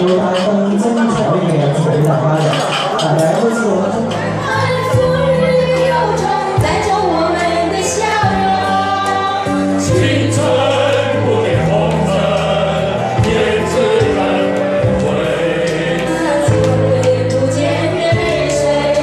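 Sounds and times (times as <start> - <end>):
musical accompaniment: 0.0 - 19.0
group singing: 2.4 - 19.0.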